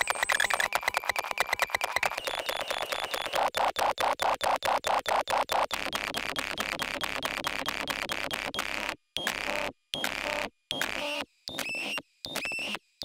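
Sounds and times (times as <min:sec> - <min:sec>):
stuttering electronic noise and beeps: 0:00.0 - 0:12.8.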